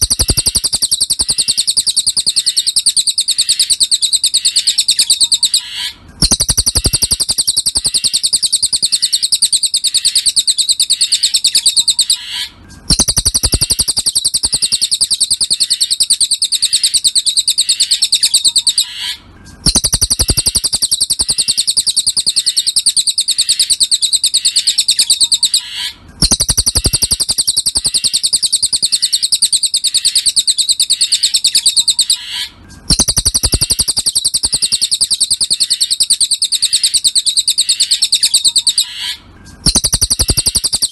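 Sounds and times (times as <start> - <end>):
bird chattering trill: 0.0 - 40.9.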